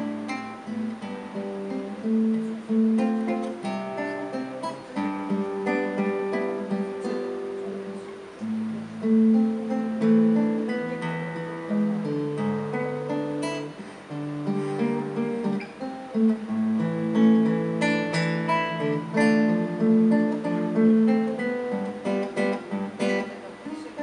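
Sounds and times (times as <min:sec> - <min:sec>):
classical guitar playing: 0:00.0 - 0:24.0.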